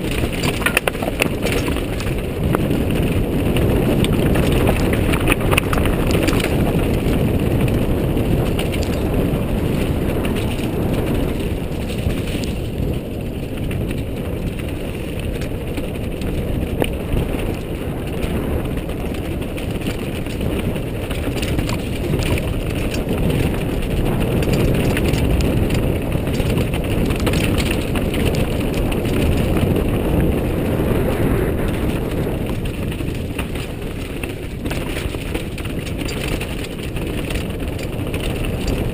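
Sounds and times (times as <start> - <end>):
bike frame rattling: 0.0 - 38.9
rocks clacking against bike: 0.0 - 38.9
tyres rumbling over loose stones: 0.0 - 38.9.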